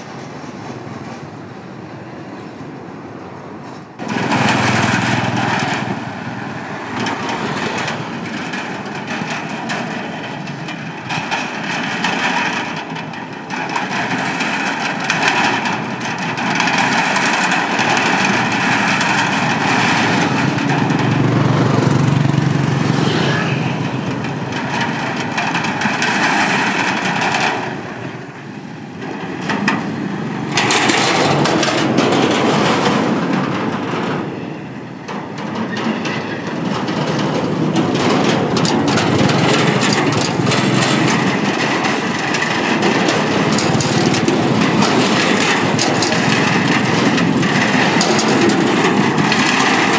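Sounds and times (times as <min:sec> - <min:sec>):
steel bridge noise under traffic: 0:00.0 - 0:49.9
motorbike engines running: 0:04.0 - 0:49.9.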